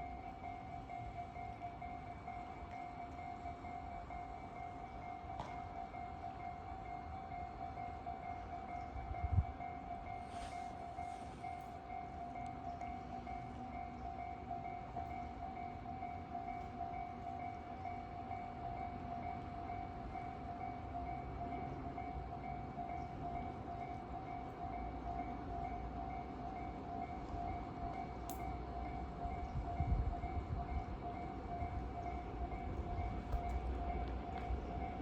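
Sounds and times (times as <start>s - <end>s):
level crossing warning bell: 0.0s - 35.0s
train rumbling: 0.0s - 35.0s.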